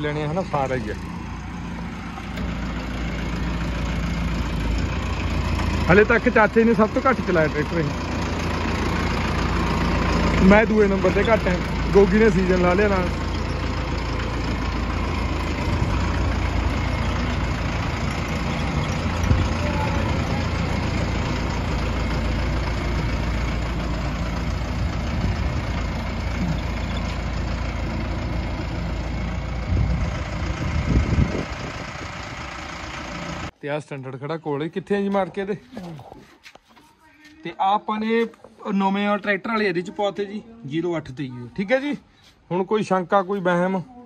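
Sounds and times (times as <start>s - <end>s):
tractor diesel engine rumbling: 0.0s - 44.0s.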